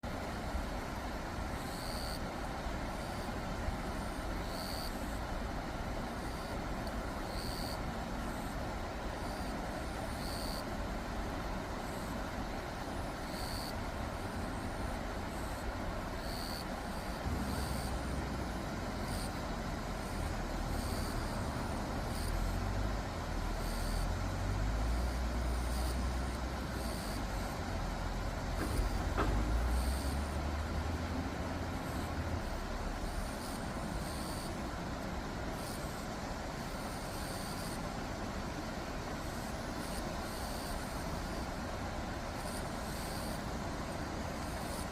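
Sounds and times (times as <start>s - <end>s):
low rumble of road traffic: 0.0s - 44.9s.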